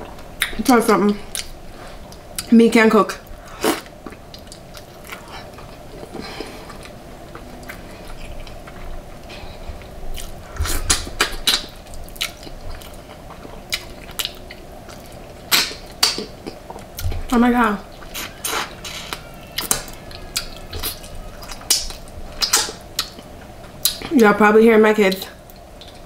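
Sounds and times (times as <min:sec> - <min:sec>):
person chewing food: 0:00.1 - 0:02.5, 0:03.3 - 0:24.1, 0:25.4 - 0:26.0.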